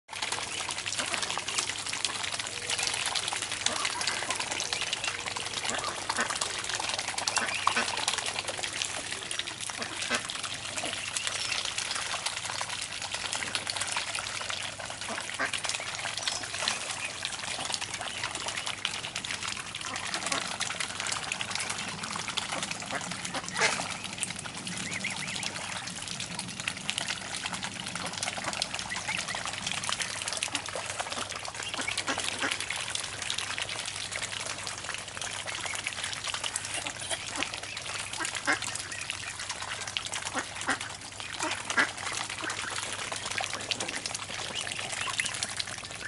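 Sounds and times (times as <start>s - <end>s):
swans' bills clicking and slurping: 0.2s - 46.0s.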